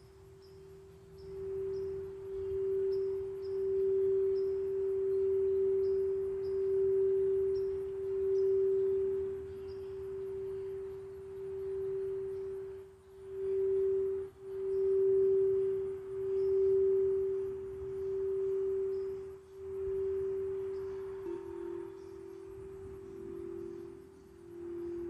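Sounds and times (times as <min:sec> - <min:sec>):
singing bowl pure tone: 0:00.0 - 0:25.0.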